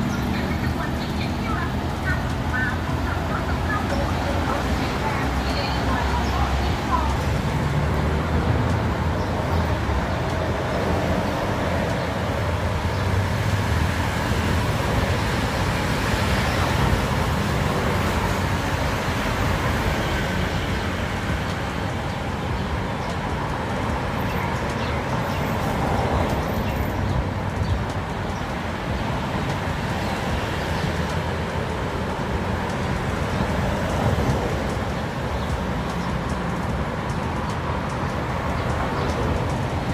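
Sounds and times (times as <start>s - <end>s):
cars and motorcycles passing: 0.0s - 39.9s.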